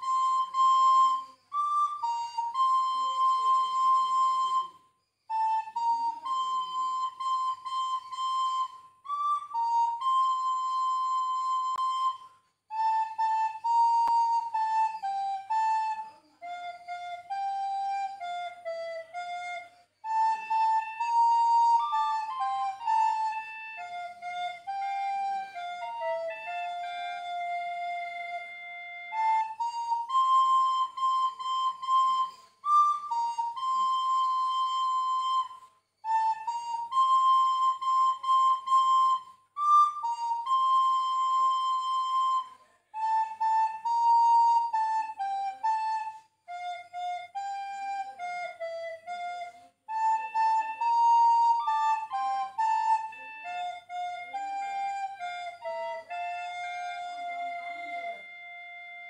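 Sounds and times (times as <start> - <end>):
flute-like instrument playing hymn: 0.0 - 59.0.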